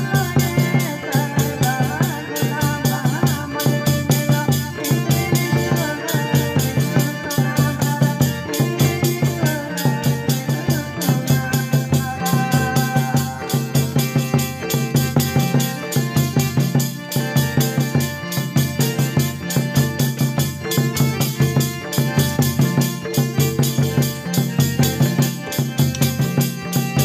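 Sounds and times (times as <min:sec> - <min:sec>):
organ keyboard playing: 0:00.0 - 0:27.0
quick drum beat: 0:00.0 - 0:27.0.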